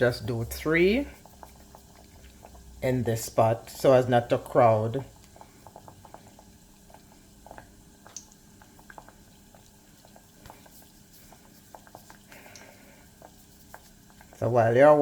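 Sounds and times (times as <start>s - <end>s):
oil bubbling with crackles: 0.0s - 15.0s.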